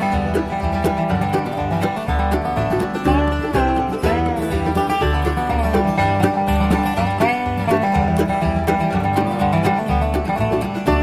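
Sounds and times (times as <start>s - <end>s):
upbeat country instrumental: 0.0s - 11.0s.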